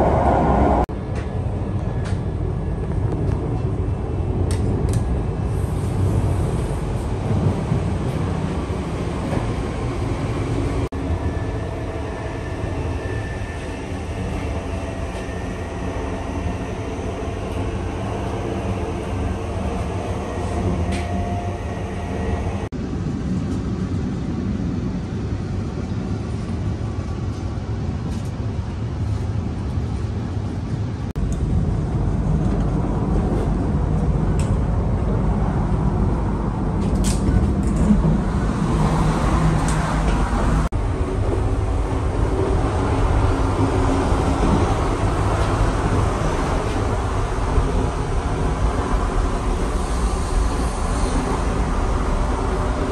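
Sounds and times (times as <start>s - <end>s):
train rumble inside carriage: 0.0s - 52.9s.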